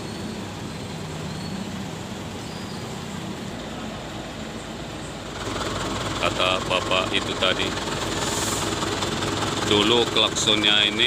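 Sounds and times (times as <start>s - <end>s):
street noise: 0.0s - 11.0s
vehicle engine running: 0.0s - 11.0s.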